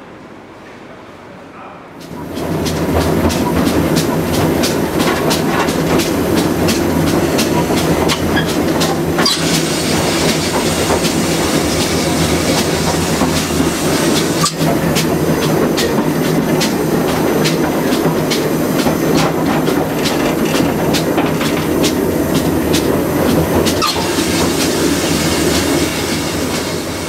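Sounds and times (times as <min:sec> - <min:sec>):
steam locomotive running: 0:02.0 - 0:27.0
wheels clattering over rail joints: 0:02.3 - 0:26.9.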